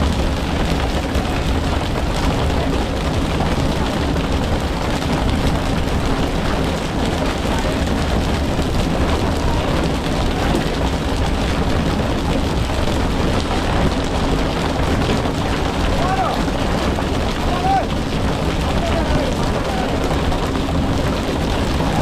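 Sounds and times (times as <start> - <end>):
boat engine running: 0.0 - 22.0
rushing water: 0.0 - 22.0.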